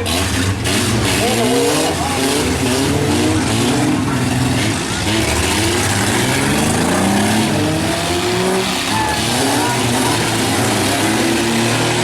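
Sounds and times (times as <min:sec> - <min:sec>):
engines revving: 0:00.0 - 0:12.0.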